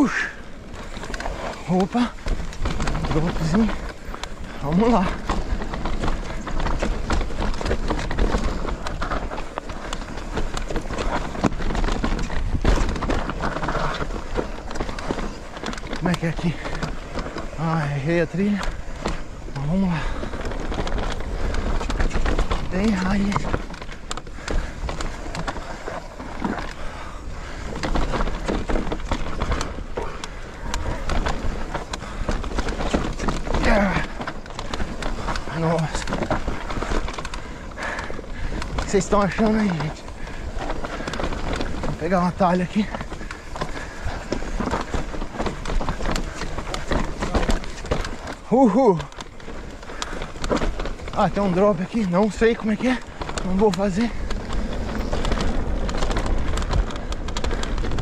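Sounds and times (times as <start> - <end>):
bike knocks and rattles: 0.0 - 58.0
bike tyres rolling over dirt: 0.0 - 58.0
wind rumble on microphone: 0.0 - 58.0.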